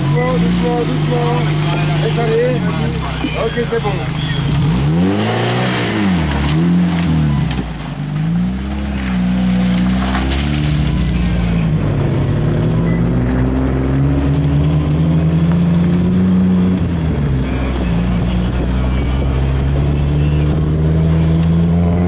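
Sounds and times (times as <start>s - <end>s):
car engine pulling under load: 0.0s - 22.0s.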